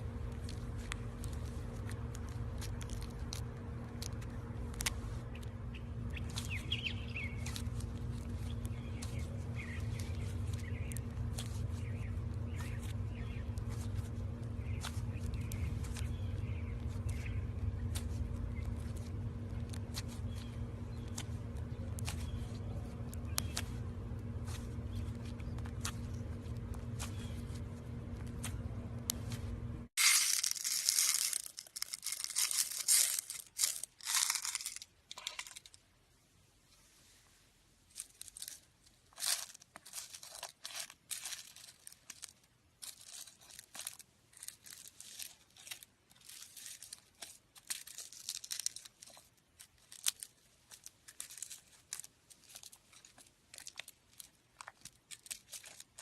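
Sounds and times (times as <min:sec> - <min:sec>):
slime crackling and popping: 0:00.0 - 0:29.2, 0:30.0 - 0:35.7, 0:38.0 - 0:56.0
steady low hum: 0:00.0 - 0:49.8.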